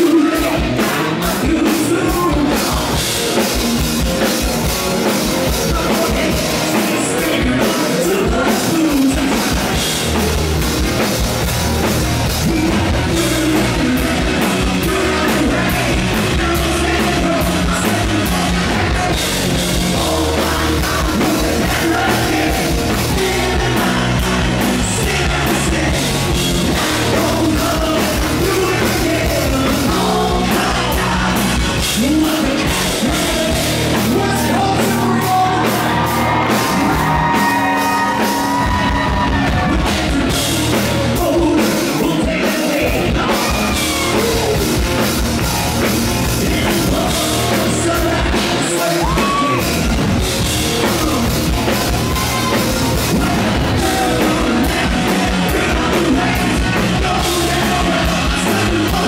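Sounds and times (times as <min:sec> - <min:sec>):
drum kit: 0:00.0 - 0:59.0
electric guitar: 0:00.0 - 0:59.0
man singing lead vocals: 0:00.0 - 0:59.0.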